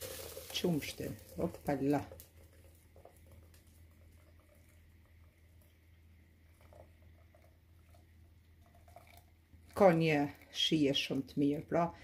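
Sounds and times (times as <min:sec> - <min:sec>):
low steady hum: 0:00.0 - 0:12.0
milk trickling through sieve: 0:00.0 - 0:12.0.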